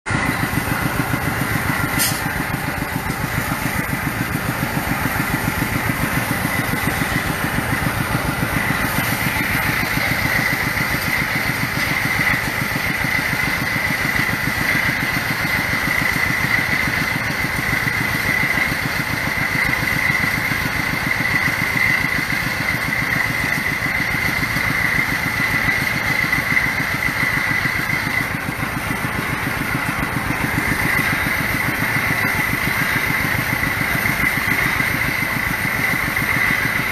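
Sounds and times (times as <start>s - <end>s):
small drilling engine running: 0.1s - 36.9s
steady high whine: 0.1s - 36.9s.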